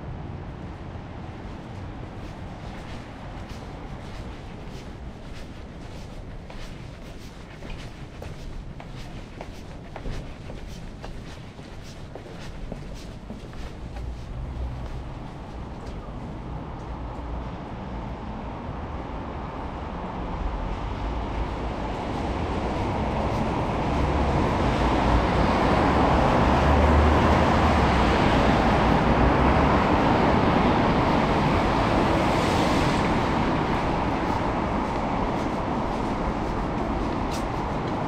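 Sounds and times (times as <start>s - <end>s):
vehicle rumble and hiss: 0.0s - 38.0s.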